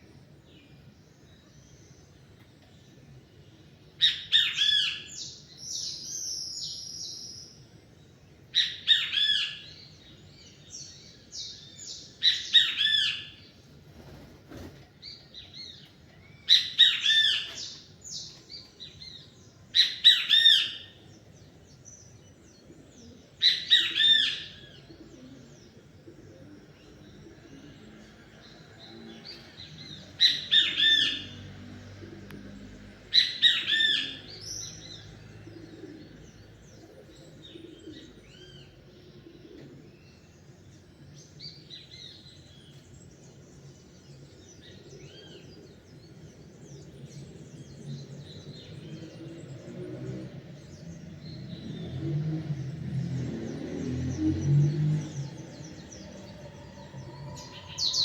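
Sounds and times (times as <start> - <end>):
songbird song phrase: 0.0 - 58.0.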